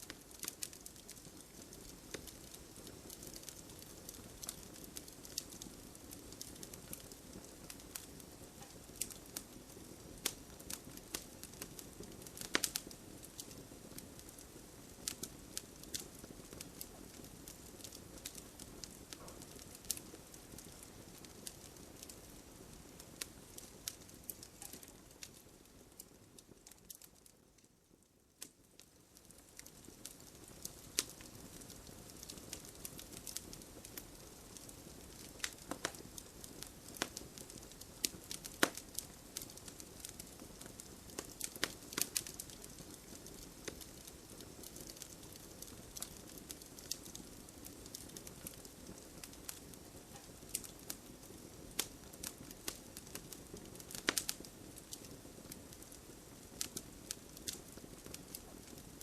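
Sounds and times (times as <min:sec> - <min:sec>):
hiss of burning wood: 0:00.0 - 0:27.4, 0:28.4 - 0:59.0
campfire crackling and popping: 0:00.0 - 0:59.0.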